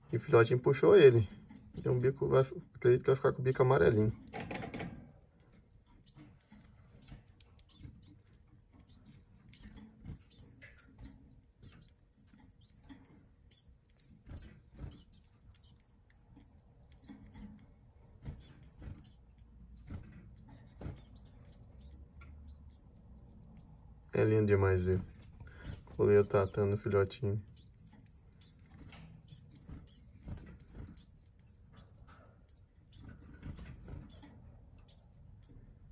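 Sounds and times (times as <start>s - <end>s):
nestling begging peeps: 1.3s - 35.7s.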